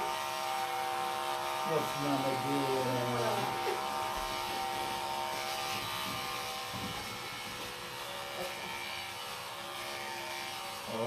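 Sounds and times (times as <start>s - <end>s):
electric clippers running: 0.0s - 11.0s.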